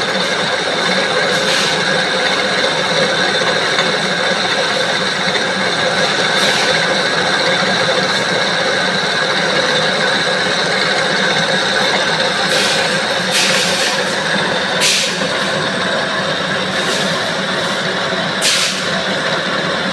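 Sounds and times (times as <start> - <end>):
metalworking machine droning: 0.0 - 19.9.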